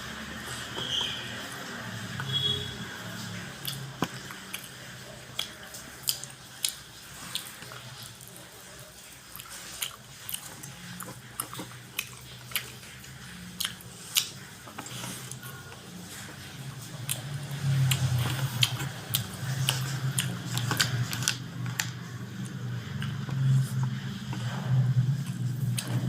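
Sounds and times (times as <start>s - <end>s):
chewing food: 0.0s - 26.0s.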